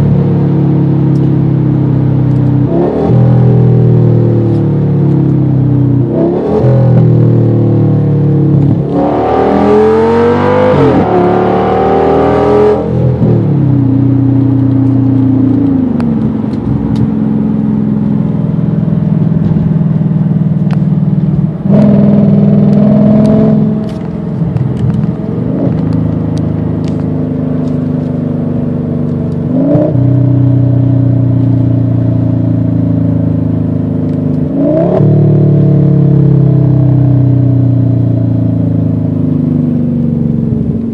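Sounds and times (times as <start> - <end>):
car engine from inside cabin: 0.0 - 40.9.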